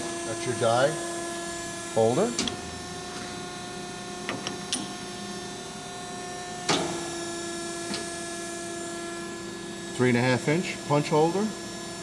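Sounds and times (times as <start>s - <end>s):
hydraulic power unit humming: 0.0s - 12.0s.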